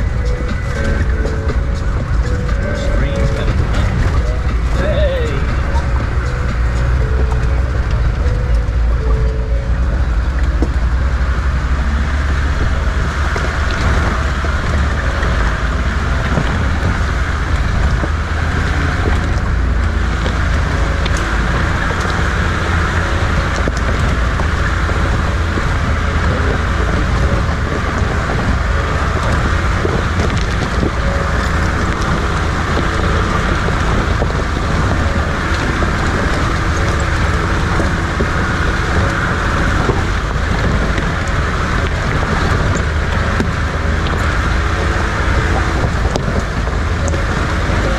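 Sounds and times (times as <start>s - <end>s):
jeep engine and road noise: 0.0s - 47.9s.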